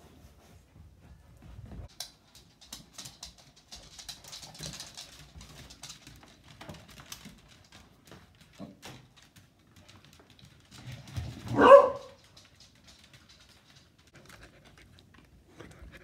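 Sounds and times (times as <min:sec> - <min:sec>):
claws and hooves clicking on floor: 0:00.1 - 0:16.0.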